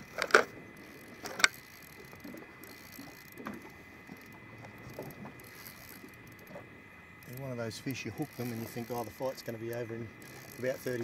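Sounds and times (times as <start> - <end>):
fishing reel clicks: 0.0 - 6.6, 7.2 - 11.0
fishing reel ticking: 0.0 - 6.6, 7.2 - 11.0.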